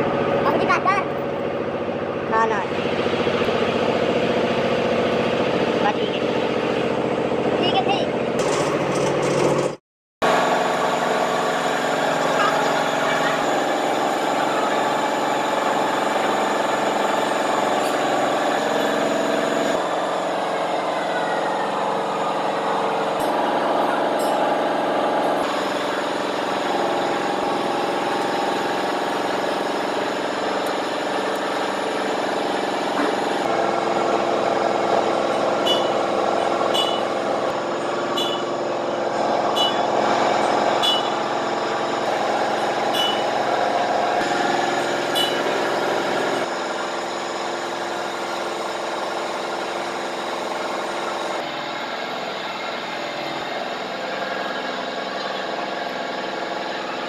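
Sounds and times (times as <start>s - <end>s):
workshop machinery noise: 0.0s - 57.0s.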